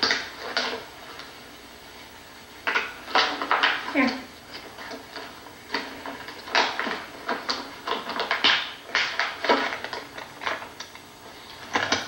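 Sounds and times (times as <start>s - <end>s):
small objects knocking and clicking: 0.0s - 1.4s, 2.6s - 12.0s.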